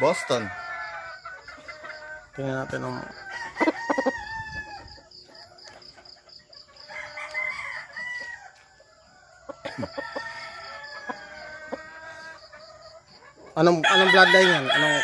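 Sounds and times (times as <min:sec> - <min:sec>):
roosters crowing: 0:00.0 - 0:15.0.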